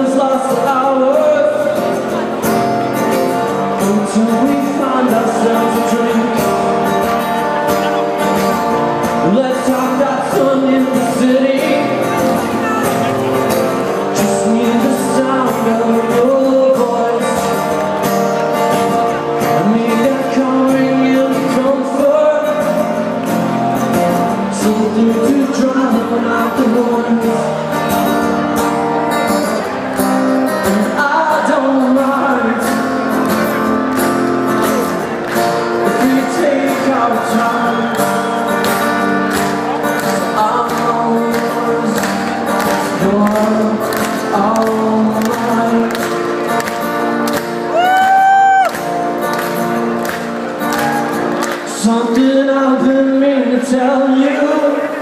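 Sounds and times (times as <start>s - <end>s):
person singing: 0.0s - 46.8s, 50.8s - 55.0s
electric guitars: 0.0s - 55.0s.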